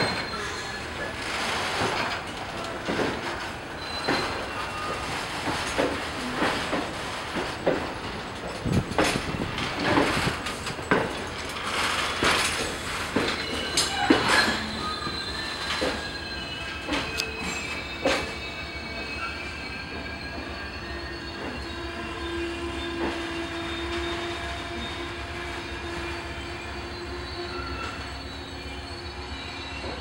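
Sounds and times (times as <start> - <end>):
train rolling: 0.0 - 30.0
wheels squealing: 0.0 - 30.0.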